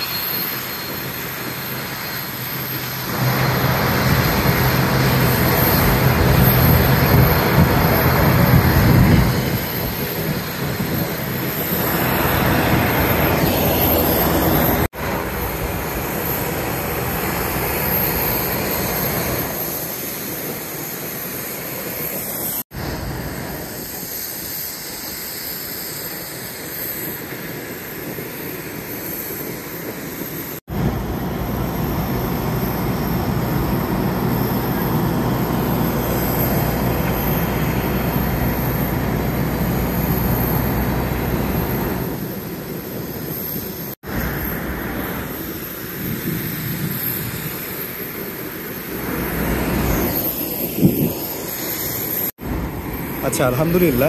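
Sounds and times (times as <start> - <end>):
airliner engines rumbling: 0.0 - 54.0.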